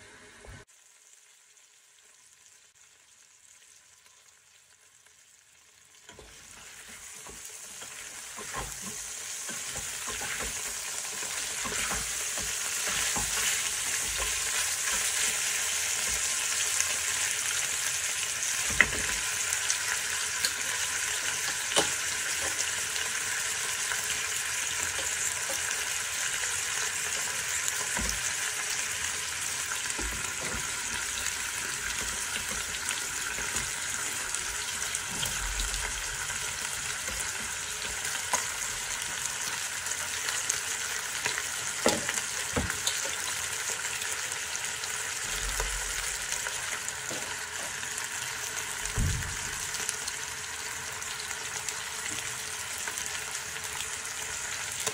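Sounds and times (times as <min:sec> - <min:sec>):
meat sizzling in hot oil: 0:00.0 - 0:54.9.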